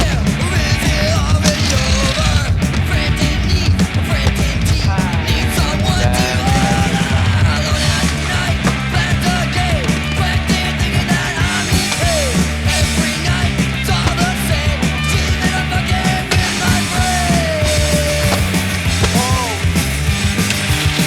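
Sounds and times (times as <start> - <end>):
loud punk rock music: 0.0 - 21.0.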